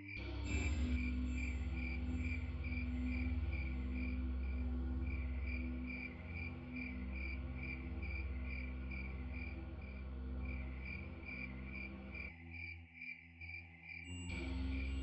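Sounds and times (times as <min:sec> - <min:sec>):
low steady drone: 0:00.0 - 0:12.2, 0:14.1 - 0:15.0.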